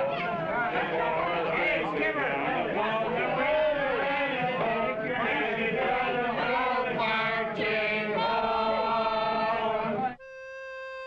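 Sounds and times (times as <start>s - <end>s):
crowd singing and chanting: 0.0s - 10.2s.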